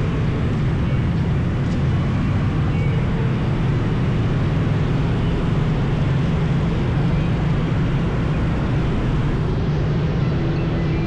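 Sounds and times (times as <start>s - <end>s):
highway traffic: 0.0s - 11.0s.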